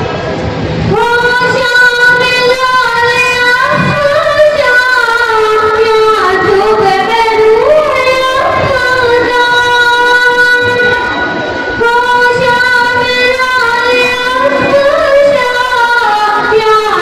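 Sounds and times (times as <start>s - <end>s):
girl singing devotional melody: 0.9s - 17.0s.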